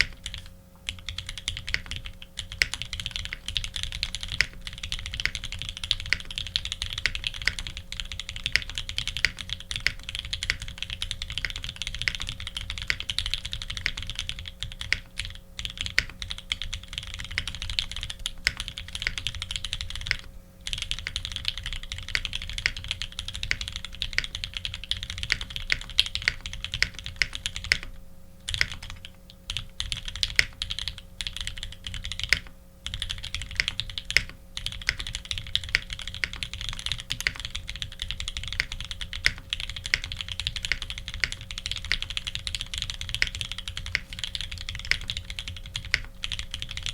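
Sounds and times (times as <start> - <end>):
mechanical keyboard typing: 0.0 - 46.9.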